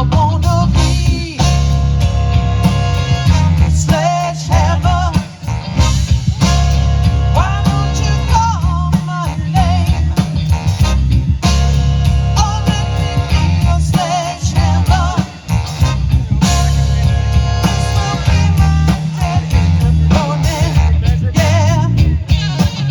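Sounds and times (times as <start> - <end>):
bass: 0.0 - 22.9
horn melody: 0.0 - 22.9
steady drum beat: 0.0 - 22.9.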